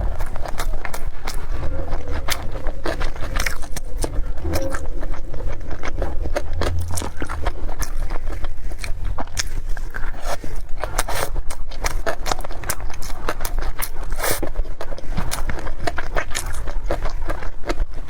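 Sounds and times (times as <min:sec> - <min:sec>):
chewing with mouth smacks: 0:00.0 - 0:18.0.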